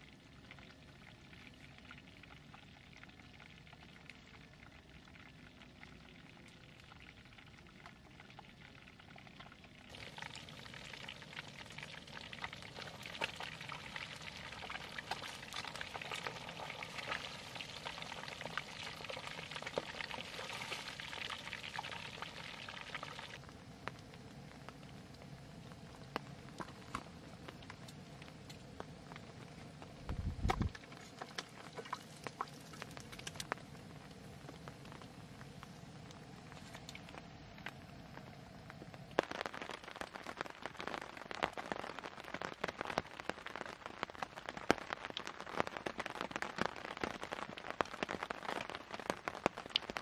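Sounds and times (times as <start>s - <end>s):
fish sizzling in hot oil: 0.0s - 50.0s
quiet steady hiss: 0.0s - 50.0s.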